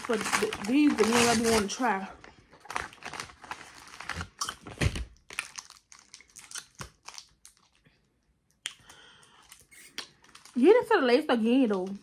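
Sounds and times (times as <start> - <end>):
plastic wrapper crinkling: 0.0 - 8.1, 8.8 - 12.0.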